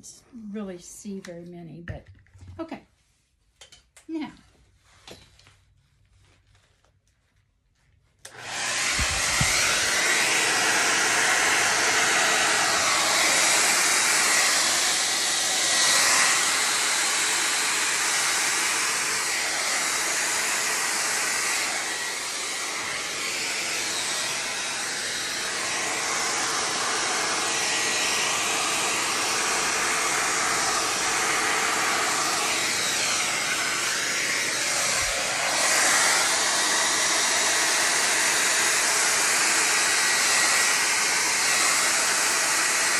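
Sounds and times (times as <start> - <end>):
hair dryer blowing: 8.2 - 42.9.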